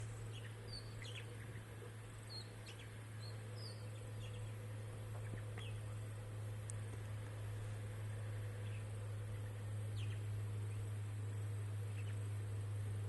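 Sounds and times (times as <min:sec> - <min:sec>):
steady low hum: 0:00.0 - 0:13.0
wild birds chirping: 0:00.0 - 0:13.0.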